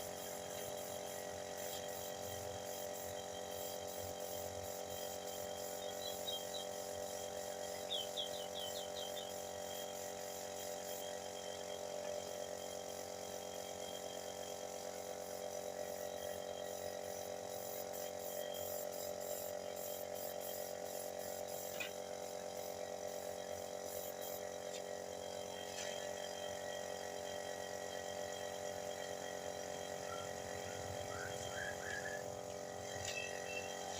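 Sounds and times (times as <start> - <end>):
steady machine hum: 0.0 - 33.9.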